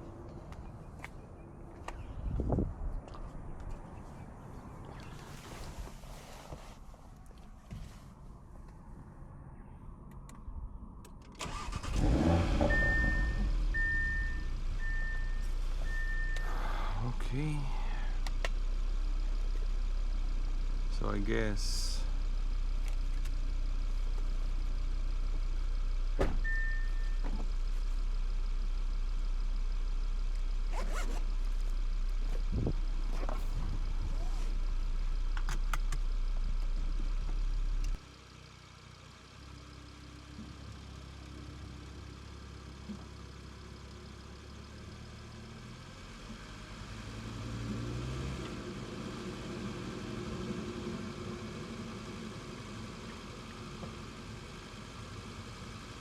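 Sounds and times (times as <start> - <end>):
car engine idling: 9.6 - 56.0.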